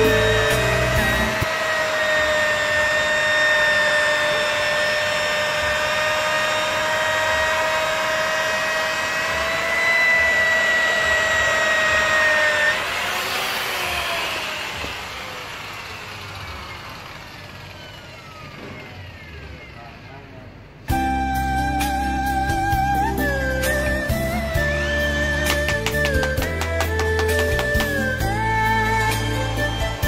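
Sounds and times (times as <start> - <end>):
electric polisher whining: 0.0 - 19.9, 22.1 - 30.0.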